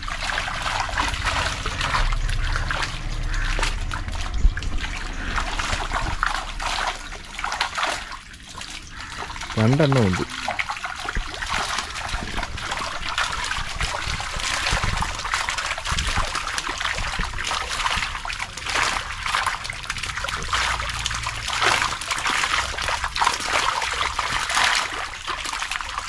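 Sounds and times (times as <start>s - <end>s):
water draining through mesh: 0.0s - 26.0s
water splashing and trickling: 0.0s - 26.0s.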